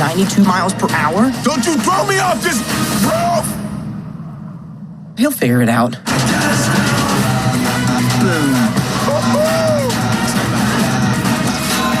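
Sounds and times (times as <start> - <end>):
driving trailer music: 0.0 - 5.2, 6.0 - 12.0.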